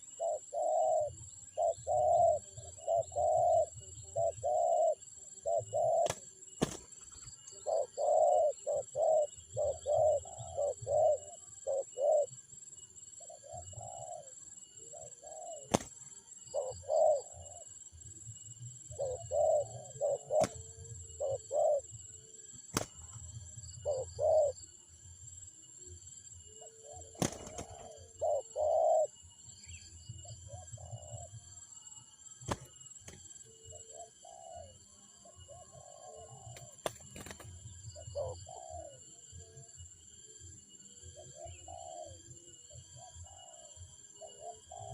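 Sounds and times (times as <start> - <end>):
doves cooing: 0.0 - 12.4, 13.2 - 17.8, 18.4 - 24.7, 26.4 - 31.6, 32.5 - 39.4, 41.1 - 44.9.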